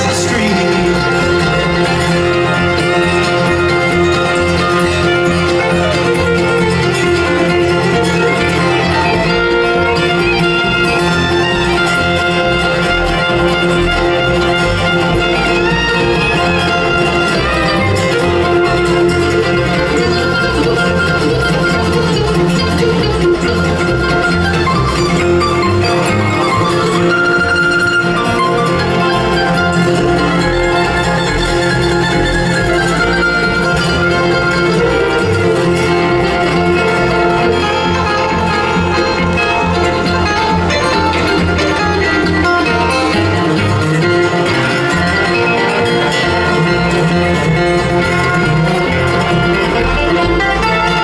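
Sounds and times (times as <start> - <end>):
bass line: 0.0 - 51.0
bluegrass band playing: 0.0 - 51.0
fiddle melody: 0.0 - 51.0
plucked strings: 0.0 - 51.0
strummed guitar: 0.0 - 51.0.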